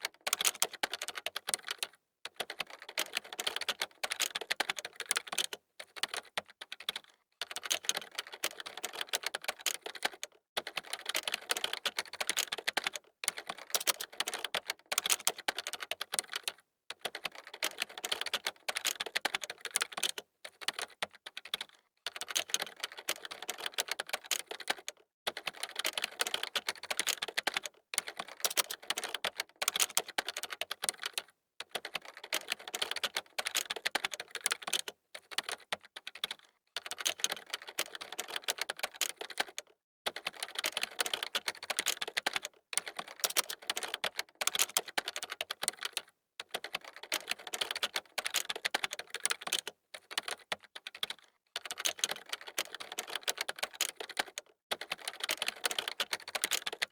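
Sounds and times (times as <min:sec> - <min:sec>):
fast typing on keyboard: 0:00.0 - 0:56.9.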